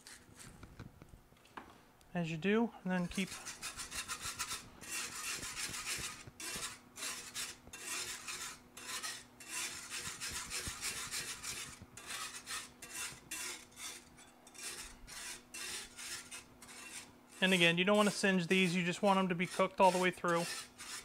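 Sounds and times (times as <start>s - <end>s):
whisk scraping metal skillet: 0.0s - 0.6s, 3.0s - 21.0s.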